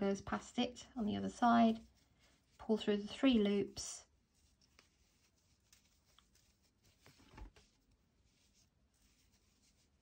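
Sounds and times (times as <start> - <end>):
yarn rustling: 0.0 - 10.0.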